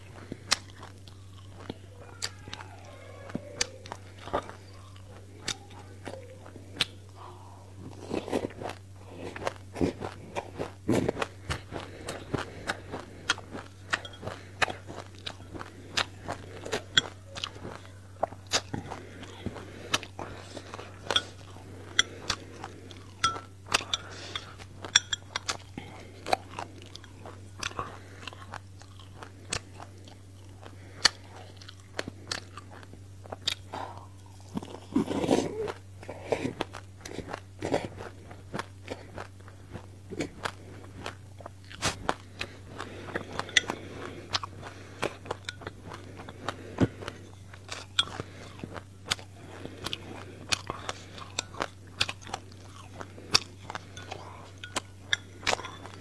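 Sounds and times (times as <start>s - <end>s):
crunching and chewing seeds: 0.0s - 56.0s
faint low hum: 0.0s - 56.0s.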